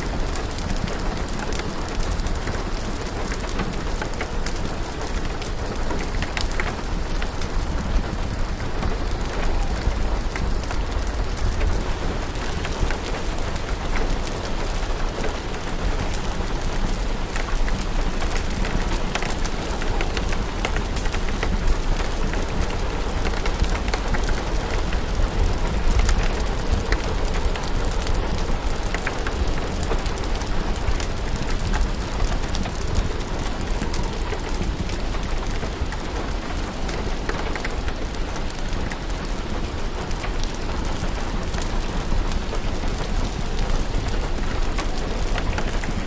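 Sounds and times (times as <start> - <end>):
fire crackling: 0.0 - 46.0
steady rain: 0.0 - 46.0.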